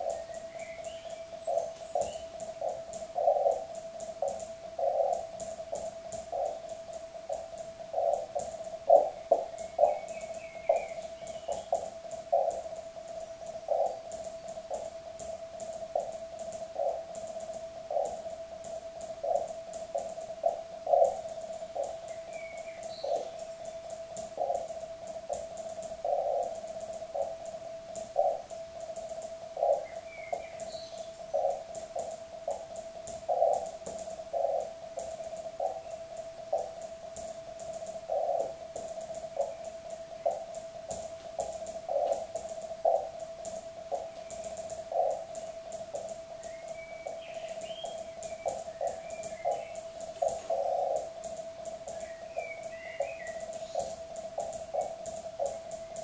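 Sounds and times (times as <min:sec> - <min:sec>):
faint continuous tone: 0:00.0 - 0:56.0
static crackle: 0:00.0 - 0:56.0.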